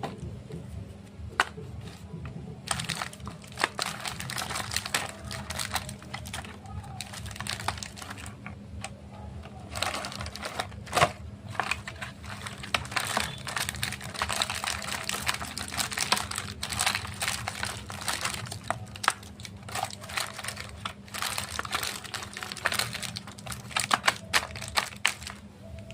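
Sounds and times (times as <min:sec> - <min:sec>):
faint steady hum: 0:00.0 - 0:25.9
plastic packaging crinkling: 0:01.3 - 0:25.9.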